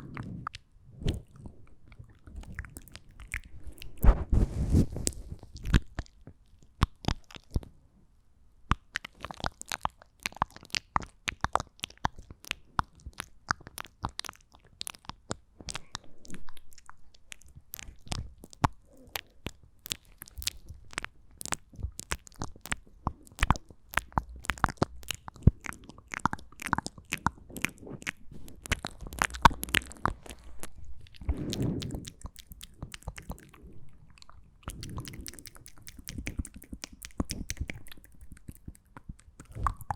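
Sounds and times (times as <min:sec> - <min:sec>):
wet mouth clicks and smacks: 0:00.0 - 0:04.2, 0:04.8 - 0:07.7, 0:08.7 - 0:39.9.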